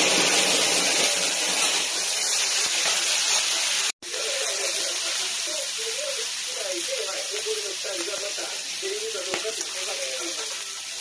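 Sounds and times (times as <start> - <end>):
food sizzling on iron griddle: 0.0 - 11.0.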